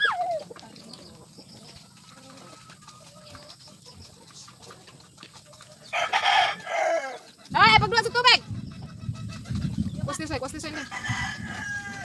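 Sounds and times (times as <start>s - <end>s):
faint chicken clucks: 0.0s - 12.0s.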